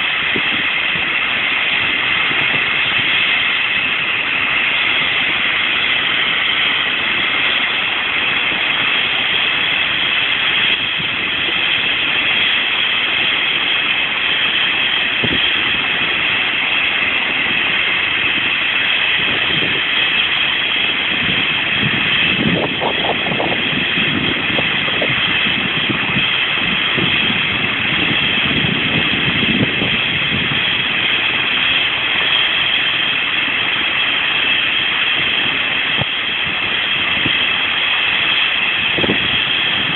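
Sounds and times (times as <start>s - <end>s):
helicopter turbine whine: 0.0s - 39.9s
low rumble bursts: 0.0s - 39.9s.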